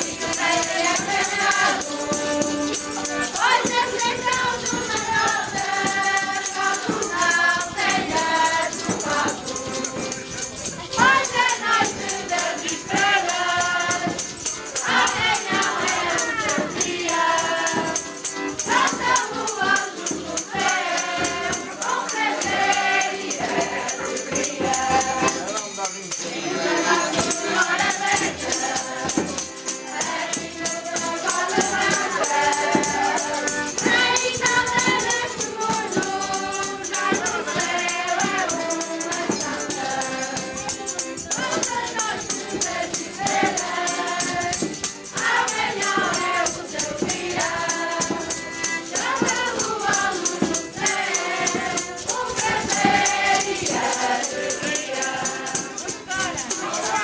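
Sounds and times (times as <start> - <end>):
group singing a carol: 0.0 - 57.0
piano accordion: 0.0 - 57.0
tambourine jingling: 0.0 - 57.0.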